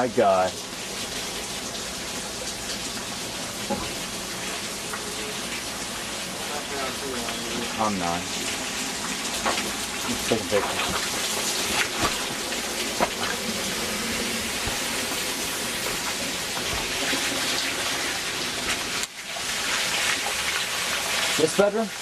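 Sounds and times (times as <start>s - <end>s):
falling water hissing: 0.0s - 22.0s.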